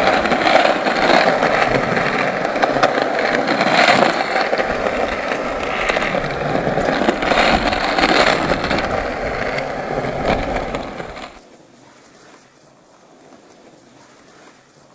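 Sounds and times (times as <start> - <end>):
skateboard wheels rolling on pavement: 0.0 - 14.9.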